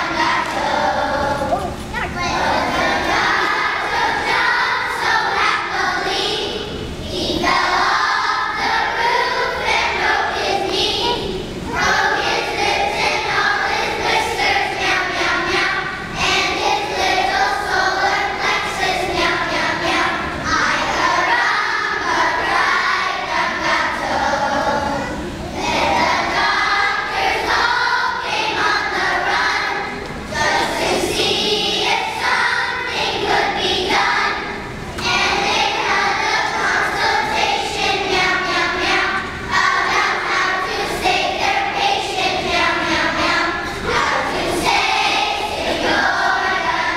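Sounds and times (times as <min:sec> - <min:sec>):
children's choir singing: 0:00.0 - 0:46.9.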